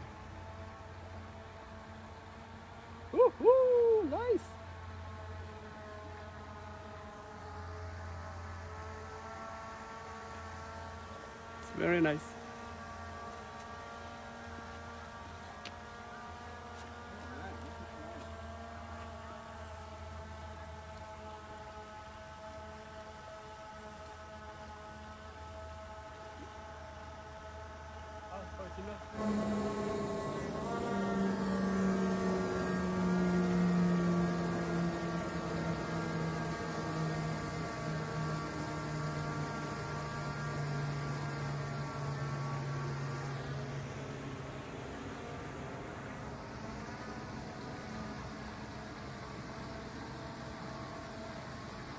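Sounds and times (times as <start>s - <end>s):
drone propellers humming: 0.0s - 51.9s.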